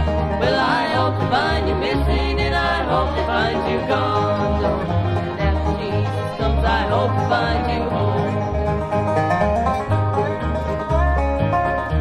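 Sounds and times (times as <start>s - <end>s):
bluegrass band playing: 0.0s - 12.0s.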